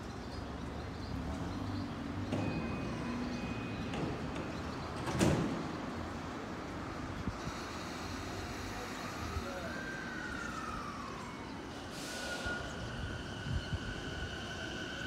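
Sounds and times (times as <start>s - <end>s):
train doors closing: 2.1s - 15.0s.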